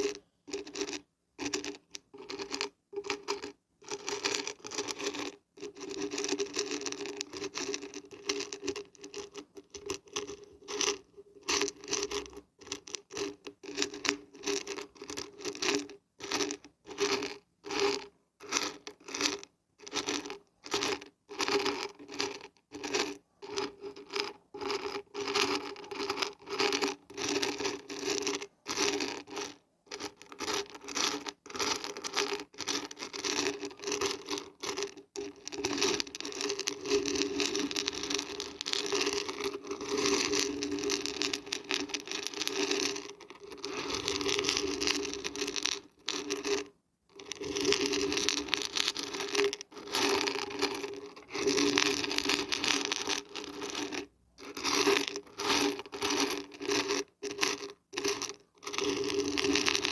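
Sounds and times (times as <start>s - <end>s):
dried beans rattling when shaken: 0.0s - 59.9s.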